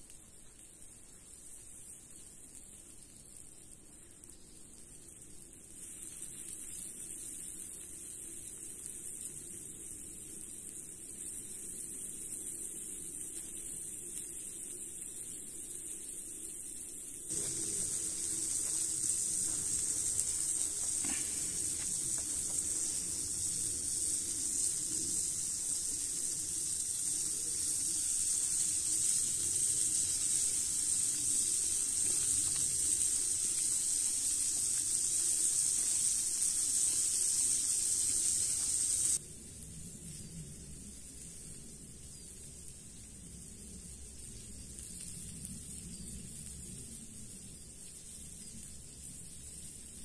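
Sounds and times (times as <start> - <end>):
food sizzling on hot stone: 0.0 - 50.0.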